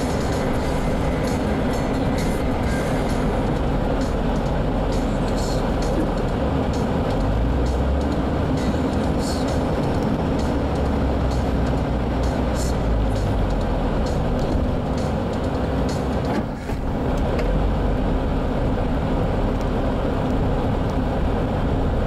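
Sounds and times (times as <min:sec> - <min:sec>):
off-road vehicle engine rumble: 0:00.0 - 0:22.0.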